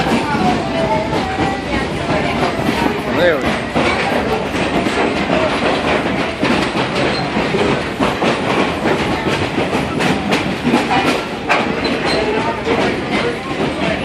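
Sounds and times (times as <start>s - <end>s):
railroad car rumbling on track: 0.0s - 14.0s
wheels clicking over rail joints: 0.0s - 14.0s.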